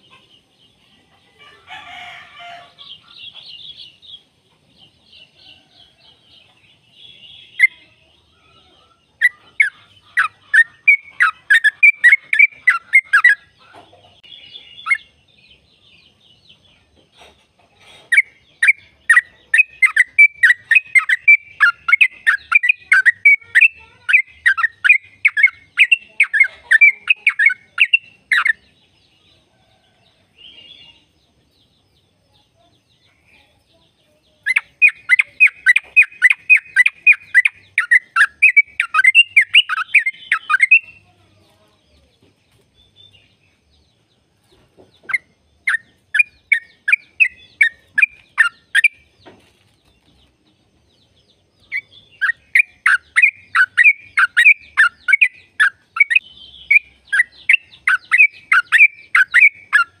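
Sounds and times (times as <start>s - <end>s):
bird singing rapid song: 0.0s - 60.0s.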